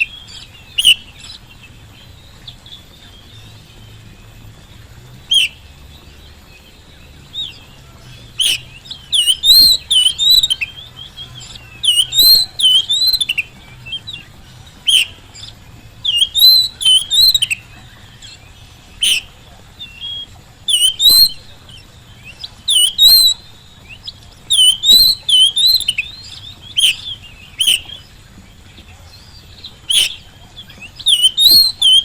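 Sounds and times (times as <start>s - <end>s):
bird singing whistled notes: 0.0s - 32.0s.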